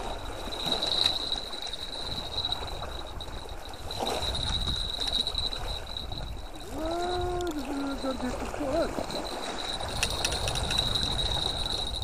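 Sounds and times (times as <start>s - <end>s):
small waves lapping: 0.0s - 12.0s
wind rumbling on microphone: 0.0s - 12.0s.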